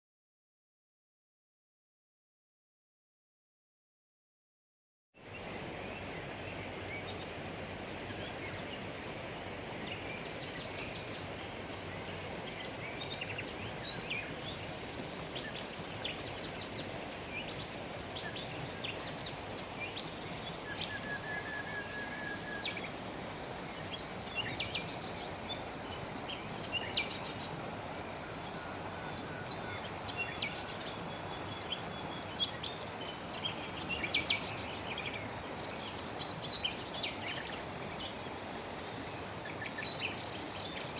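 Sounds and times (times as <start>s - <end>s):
river flowing: 5.2s - 40.9s
songbirds chirping: 5.2s - 40.9s.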